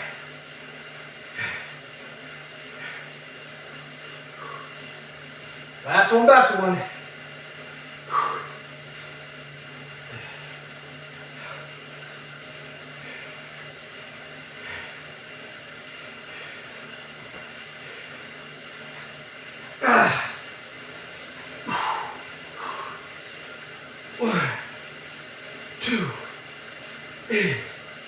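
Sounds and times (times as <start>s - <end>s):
exercise bike whirring: 0.0s - 28.0s.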